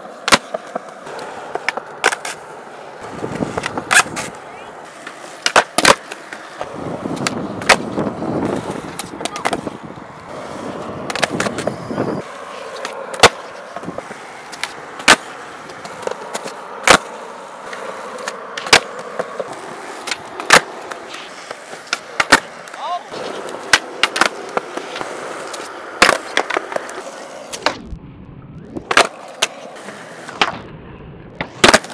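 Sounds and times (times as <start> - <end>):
skateboard wheels rolling: 0.0 - 31.9
skateboard pops and clacks: 0.2 - 2.4, 3.2 - 4.4, 5.0 - 9.7, 10.8 - 11.8, 12.7 - 27.8, 28.9 - 30.6, 31.4 - 31.9.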